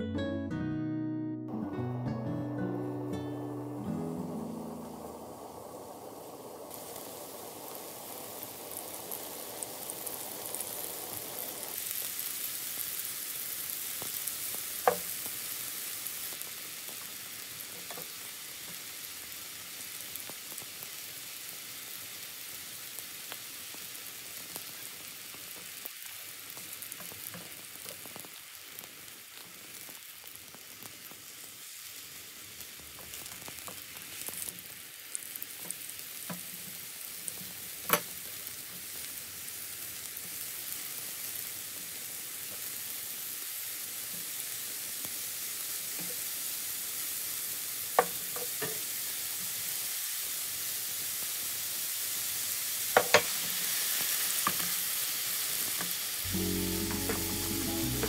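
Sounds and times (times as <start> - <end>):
mushrooms sizzling in oil: 2.8 - 58.0.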